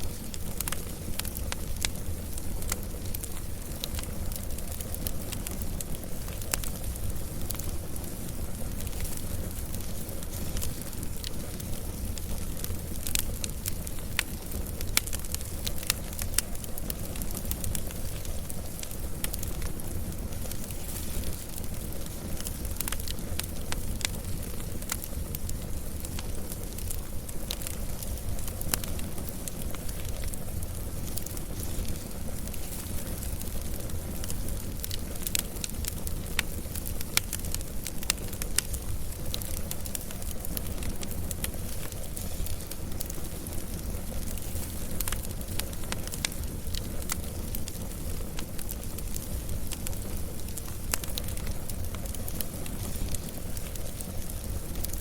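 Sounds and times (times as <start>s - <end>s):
low rumble of fire: 0.0s - 55.0s
wood fire crackling and popping: 0.0s - 55.0s.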